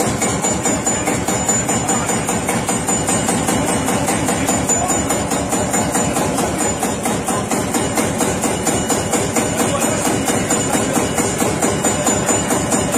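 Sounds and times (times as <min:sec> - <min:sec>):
tractor engine knocking: 0:00.0 - 0:12.9.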